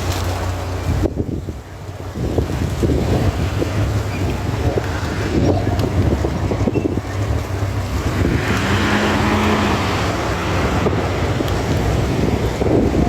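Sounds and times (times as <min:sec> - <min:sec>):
low engine rumble: 0:00.0 - 0:13.0
wind buffeting microphone: 0:00.0 - 0:13.0.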